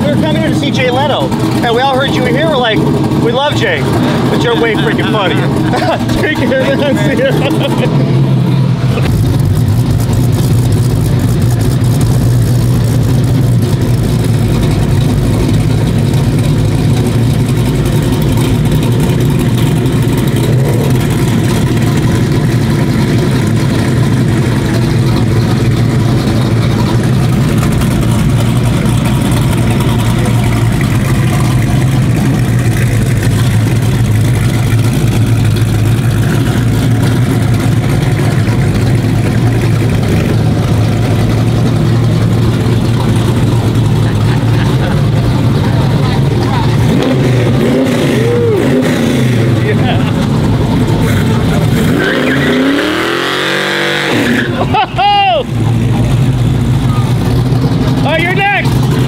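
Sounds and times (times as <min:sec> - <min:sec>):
car engine idling loudly: 0:00.0 - 0:59.0.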